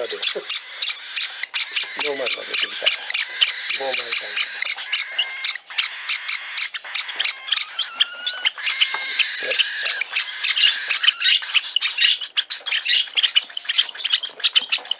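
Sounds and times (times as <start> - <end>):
cockatiel begging chirps: 0.0 - 14.9.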